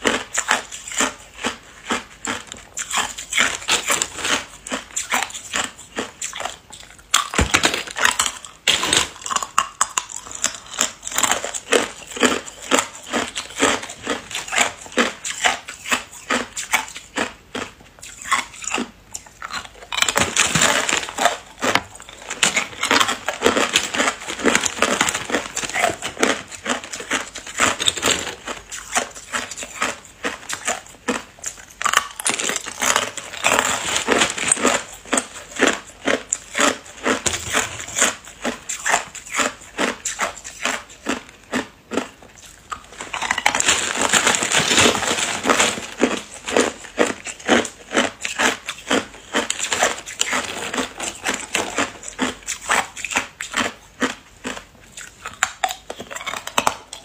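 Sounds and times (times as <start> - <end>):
ice cubes crunched between teeth: 0.0 - 57.0.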